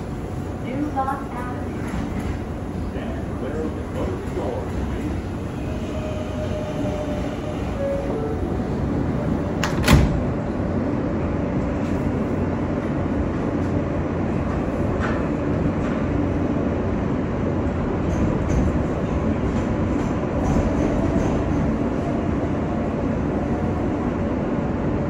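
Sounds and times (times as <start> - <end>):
subway train rolling rumble: 0.0 - 25.0.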